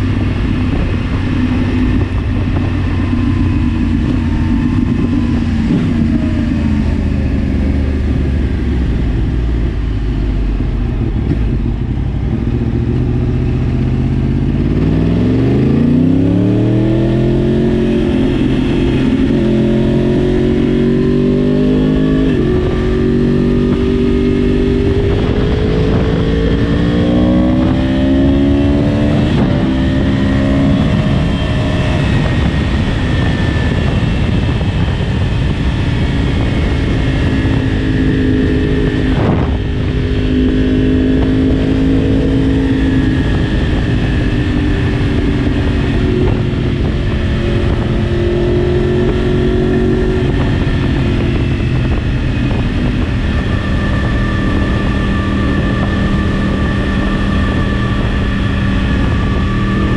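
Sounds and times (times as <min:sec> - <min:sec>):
motorcycle engine revving: 0:00.0 - 0:59.9
steady rushing noise: 0:00.0 - 0:59.9.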